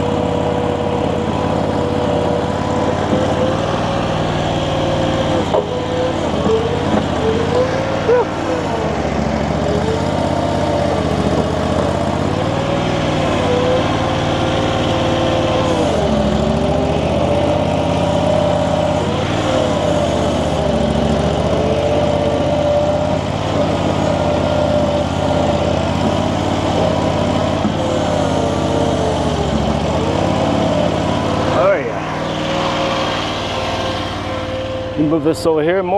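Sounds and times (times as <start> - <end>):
small loader engine running: 0.0 - 35.9.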